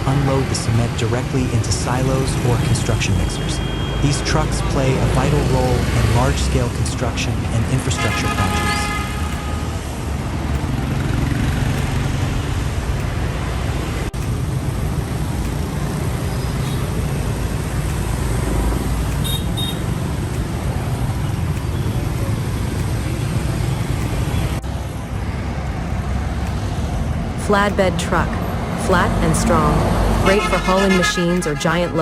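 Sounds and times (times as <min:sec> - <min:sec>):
heavy truck engine running: 0:00.0 - 0:32.0
road and traffic noise: 0:00.0 - 0:32.0.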